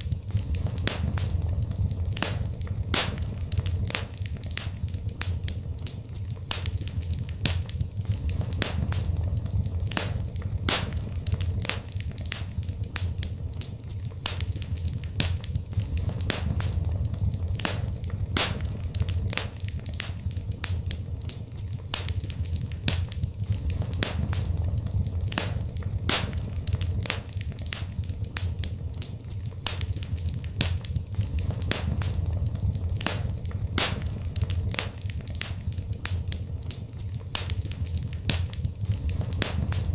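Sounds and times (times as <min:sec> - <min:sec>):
fire crackling: 0:00.0 - 0:39.9
sharp pops and snaps: 0:00.0 - 0:39.9.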